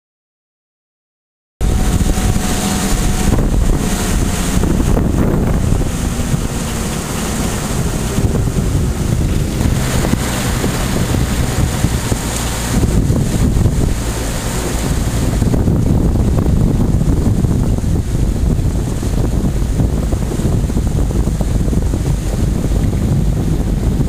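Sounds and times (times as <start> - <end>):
truck engine drone: 1.6 - 24.0
wind buffeting microphone: 1.6 - 24.0.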